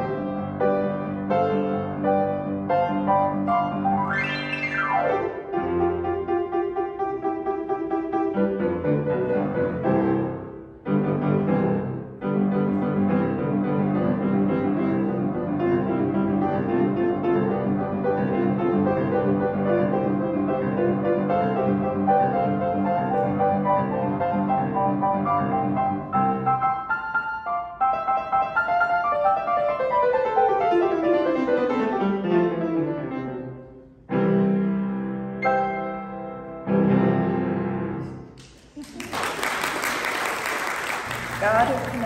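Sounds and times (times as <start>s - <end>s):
grand piano playing: 0.0s - 38.4s, 39.3s - 42.0s.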